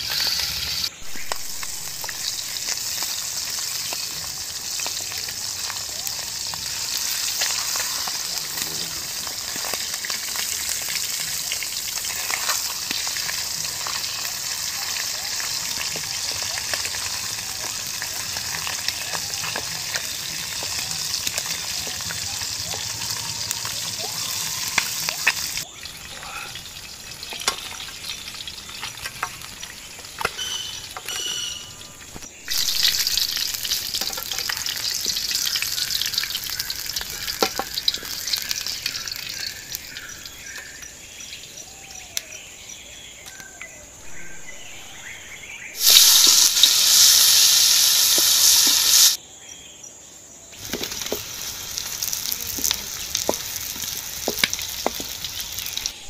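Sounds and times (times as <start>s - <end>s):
food frying in oil: 0.0s - 40.9s, 45.8s - 49.2s, 50.6s - 56.0s.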